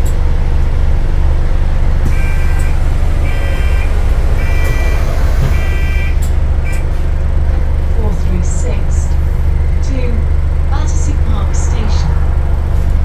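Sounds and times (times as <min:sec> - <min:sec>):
bus interior drone: 0:00.0 - 0:13.0.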